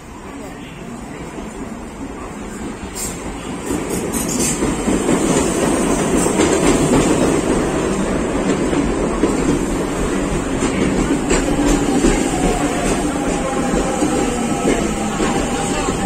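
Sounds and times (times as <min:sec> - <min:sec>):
steel wheels rumbling on rail: 0:01.0 - 0:16.0.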